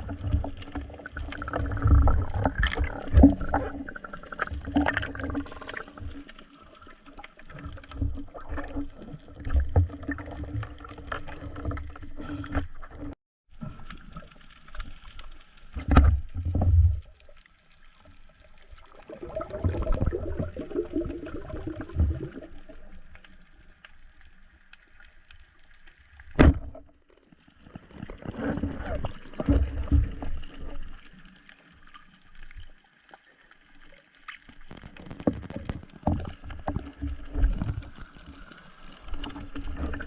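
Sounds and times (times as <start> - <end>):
water sloshing and splashing: 0.0 - 40.0.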